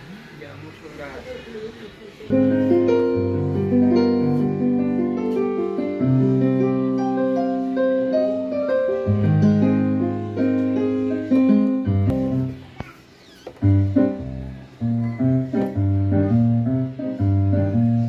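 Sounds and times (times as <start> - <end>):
synthesizer chords bass and melody: 2.3 - 12.6, 13.6 - 18.0.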